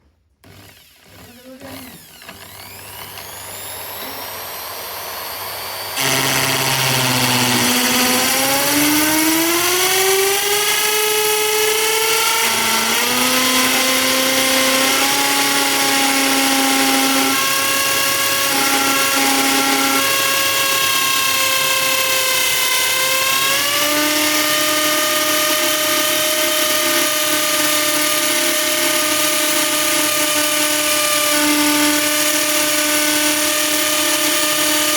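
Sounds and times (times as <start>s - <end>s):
power drill whining: 0.4s - 34.9s.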